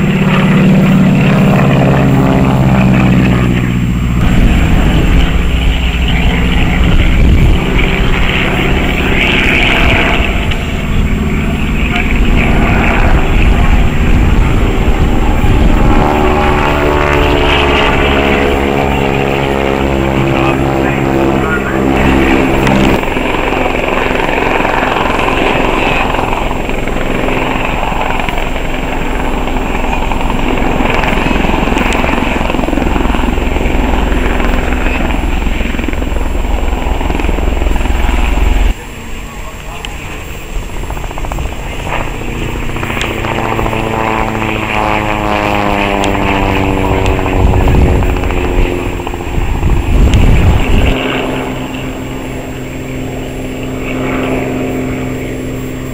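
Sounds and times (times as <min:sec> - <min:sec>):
helicopter passing overhead: 0:00.0 - 0:55.9
propeller plane flying past: 0:00.0 - 0:55.9.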